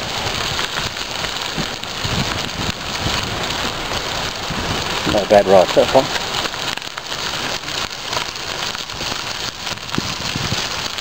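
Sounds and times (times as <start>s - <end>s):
bicycle tyres on gravel: 0.0s - 11.0s.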